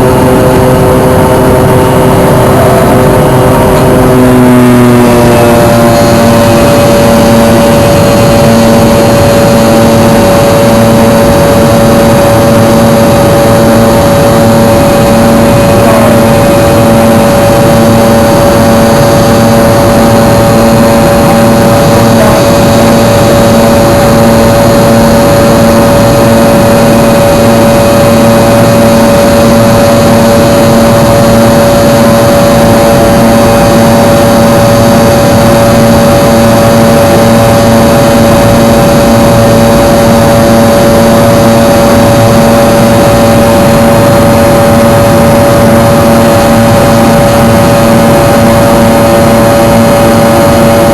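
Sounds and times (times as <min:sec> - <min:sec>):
jet engine roar in cabin: 0:00.0 - 0:50.9.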